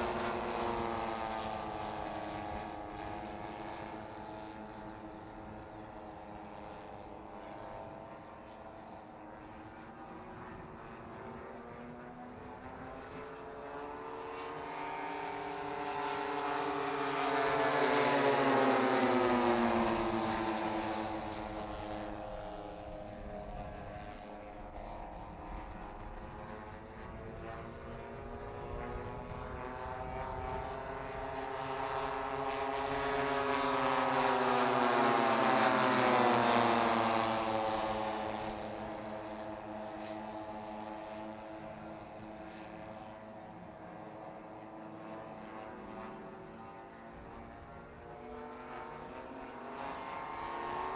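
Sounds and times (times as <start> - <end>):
model plane propeller engines: 0.0 - 50.9.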